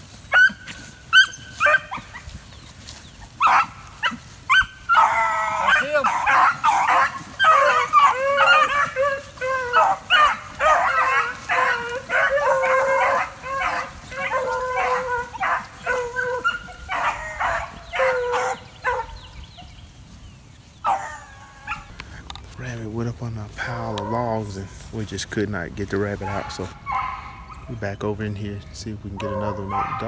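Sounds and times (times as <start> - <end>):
hounds baying in chorus: 0.0 - 19.8, 20.8 - 22.2, 23.6 - 30.0.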